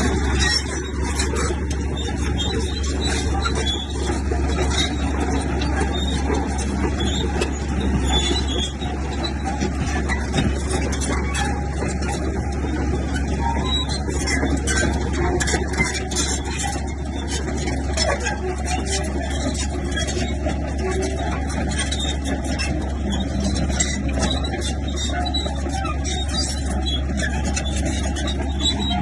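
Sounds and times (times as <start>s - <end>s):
bulldozer diesel engine droning: 0.0s - 29.0s
metallic clanks and rattles: 0.0s - 29.0s.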